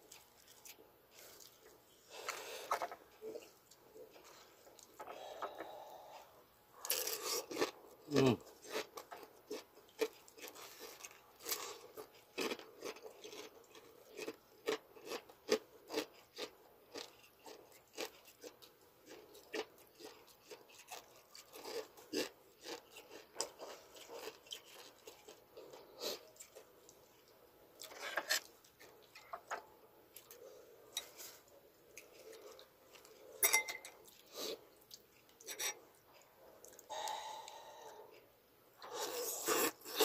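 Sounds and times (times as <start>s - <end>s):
crunching and chewing: 0.0s - 40.0s.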